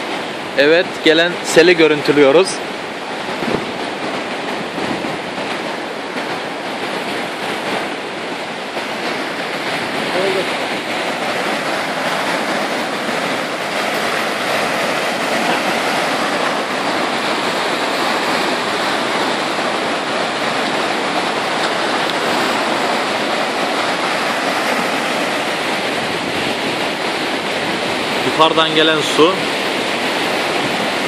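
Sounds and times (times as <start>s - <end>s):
flooded creek water rushing: 0.0s - 31.0s.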